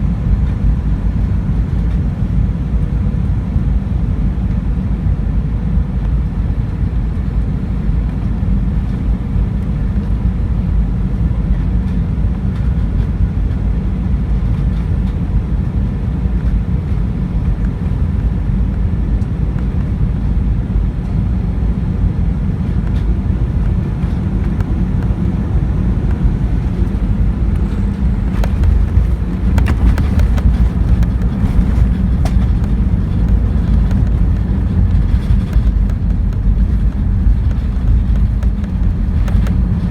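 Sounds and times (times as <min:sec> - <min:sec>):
low rumble of engines and airflow: 0:00.0 - 0:39.9.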